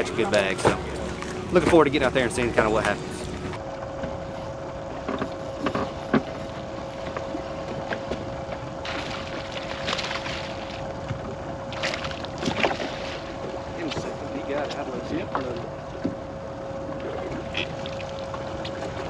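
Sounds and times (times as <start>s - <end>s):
trolling motor humming: 0.0s - 19.0s
wind and water noise: 0.0s - 19.0s.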